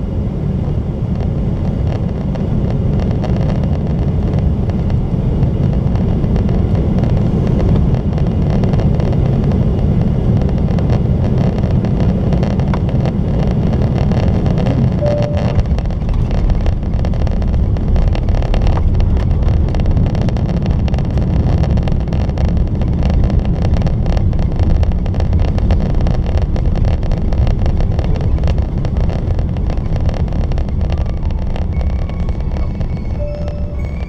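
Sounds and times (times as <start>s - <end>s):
airplane cabin engine rush: 0.0s - 34.0s.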